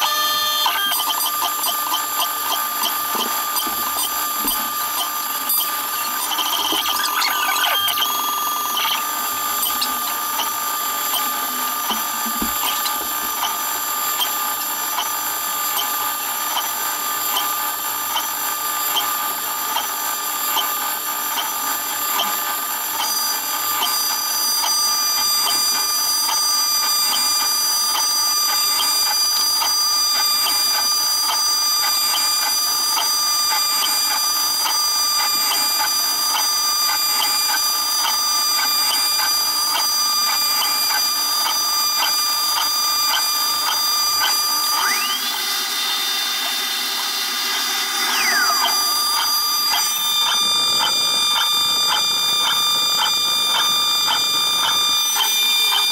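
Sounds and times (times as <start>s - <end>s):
cutter ticking on wood: 0.0s - 55.9s
router spindle whining: 0.0s - 55.9s.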